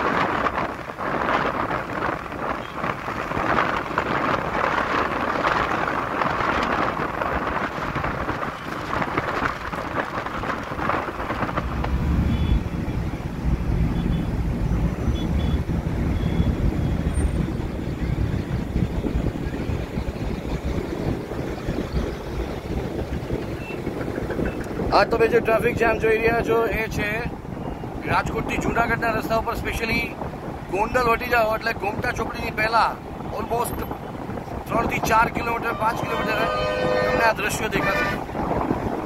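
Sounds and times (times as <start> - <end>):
vehicle wind and road noise: 0.0 - 39.0.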